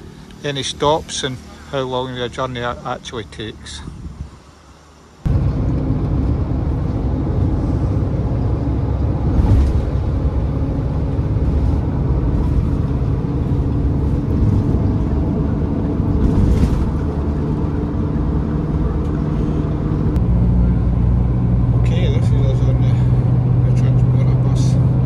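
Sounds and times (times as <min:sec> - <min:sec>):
minibus engine and tyres rumble: 0:00.0 - 0:25.0.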